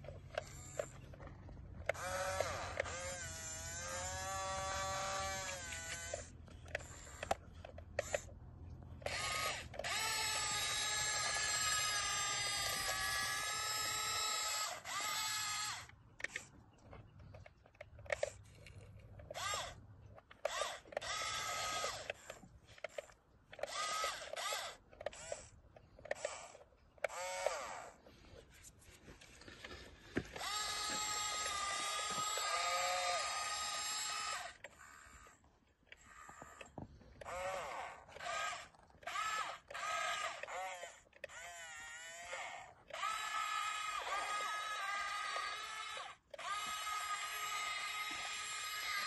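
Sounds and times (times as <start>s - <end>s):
electric motor whirring: 0.0s - 16.6s, 17.2s - 49.0s.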